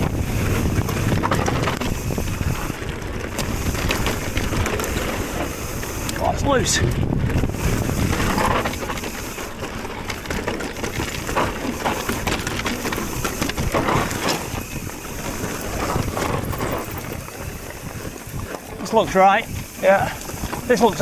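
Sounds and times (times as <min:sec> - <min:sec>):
bike frame rattling and knocking: 0:00.0 - 0:21.0
tyres rumbling over dirt and stones: 0:00.0 - 0:21.0.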